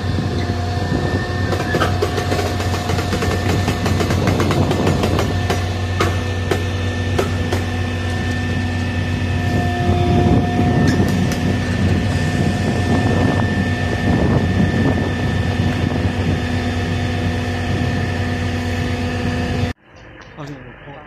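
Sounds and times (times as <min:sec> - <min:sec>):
constant high whine: 0:00.0 - 0:21.0
diesel engine drone: 0:00.0 - 0:21.0.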